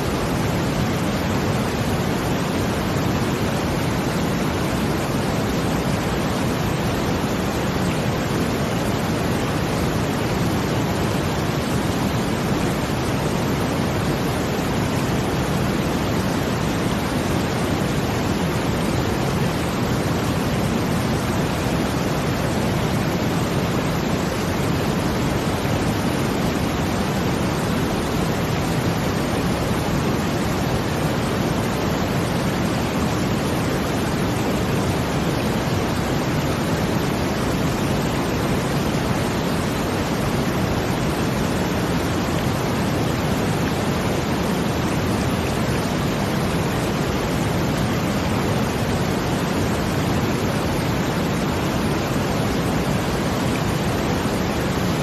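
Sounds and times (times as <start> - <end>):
brown noise: 0.0 - 55.0
rushing water: 0.0 - 55.0.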